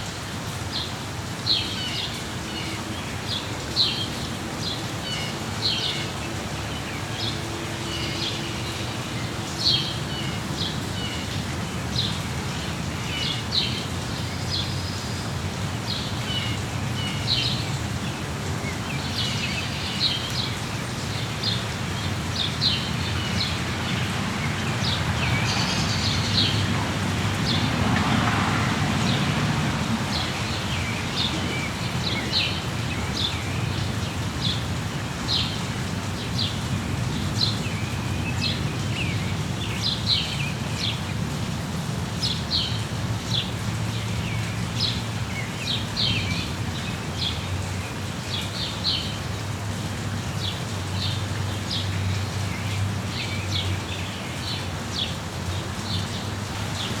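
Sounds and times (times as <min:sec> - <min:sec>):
rain pattering: 0:00.0 - 0:57.0
songbirds chirping: 0:00.1 - 0:57.0.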